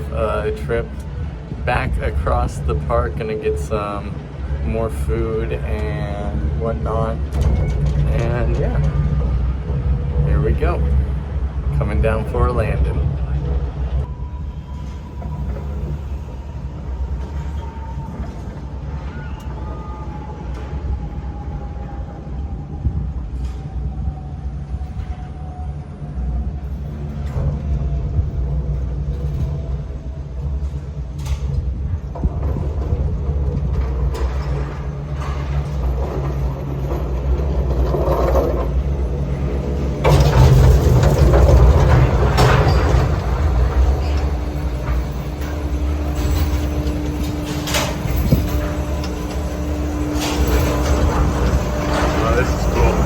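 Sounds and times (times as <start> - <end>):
gondola low rumble: 0.0 - 53.0.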